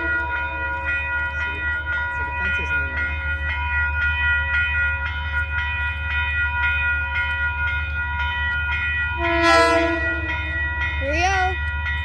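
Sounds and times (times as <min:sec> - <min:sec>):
crossing warning bell ringing: 0:00.0 - 0:12.0.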